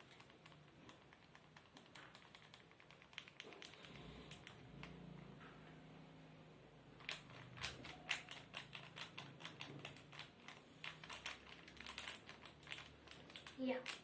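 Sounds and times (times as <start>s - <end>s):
small plastic parts clicking: 0.0s - 5.0s, 7.0s - 14.0s.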